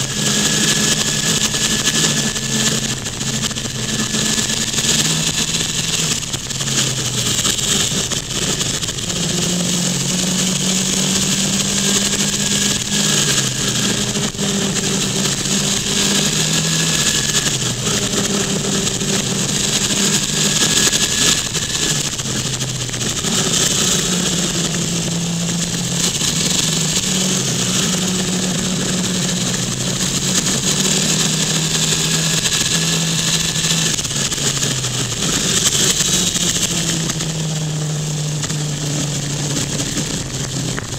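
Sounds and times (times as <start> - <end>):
motorcycle engine running: 0.0 - 40.9
wind rushing on microphone: 0.0 - 40.9.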